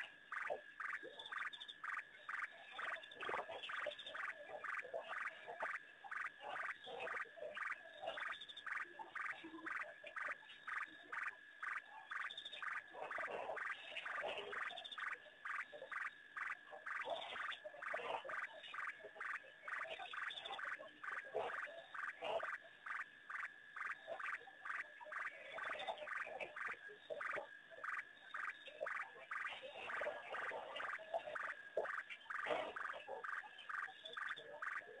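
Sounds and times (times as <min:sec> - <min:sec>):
frogs calling: 0:00.0 - 0:35.0
pulsed frog calls: 0:00.0 - 0:35.0.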